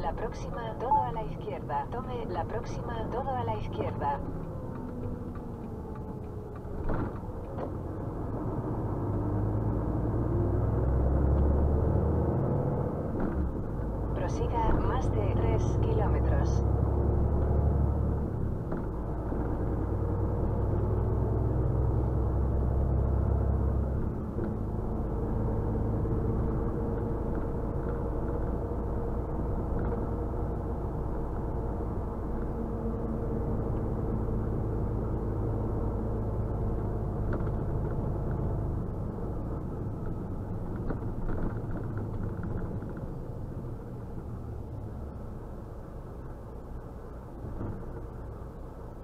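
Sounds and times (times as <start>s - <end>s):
diesel truck engine droning: 0.0s - 49.0s
road noise: 0.0s - 49.0s.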